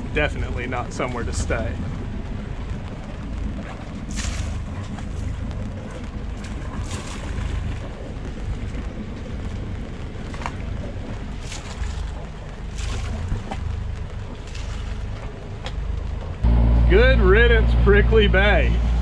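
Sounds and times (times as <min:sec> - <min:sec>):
steady low rumble: 0:00.0 - 0:19.0
water rushing past hull: 0:00.0 - 0:19.0
wind buffeting microphone: 0:00.0 - 0:19.0.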